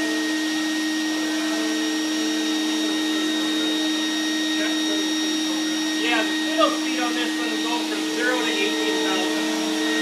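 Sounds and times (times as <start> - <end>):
router spindle whine: 0.0 - 10.0
shop vacuum hum: 0.0 - 10.0.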